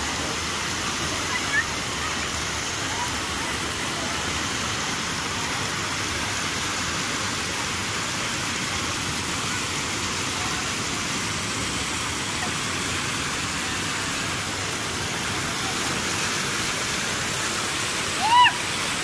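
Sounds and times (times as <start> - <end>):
water rushing over weir: 0.0 - 19.0.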